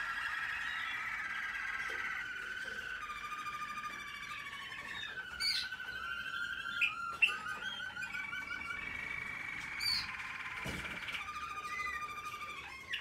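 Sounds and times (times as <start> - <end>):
canaries singing trills: 0.0 - 13.0.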